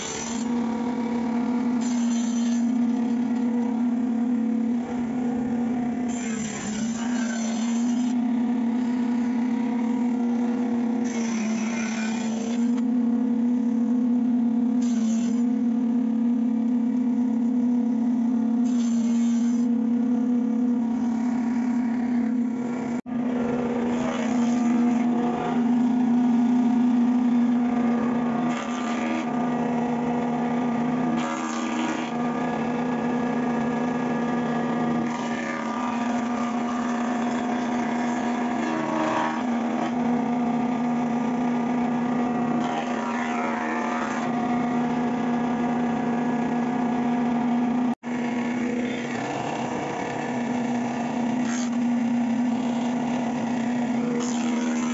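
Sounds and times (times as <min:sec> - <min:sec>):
cutter head planing board: 0:00.0 - 0:54.9
jointer motor hum: 0:00.0 - 0:54.9.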